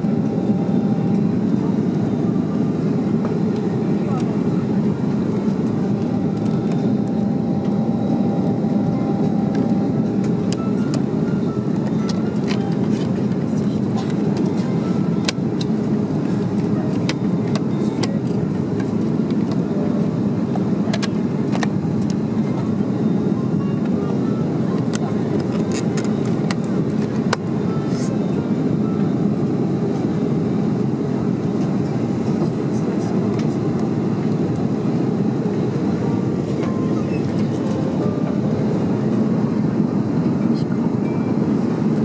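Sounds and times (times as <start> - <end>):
airliner cabin noise: 0.0 - 42.0.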